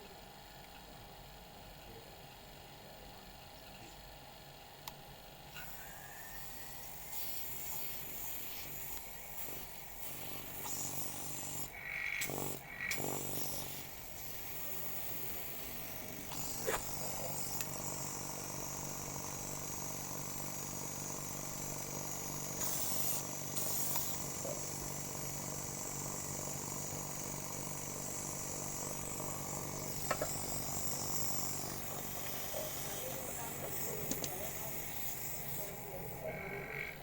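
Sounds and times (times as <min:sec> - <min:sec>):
electric machine hum: 0:00.0 - 0:37.0.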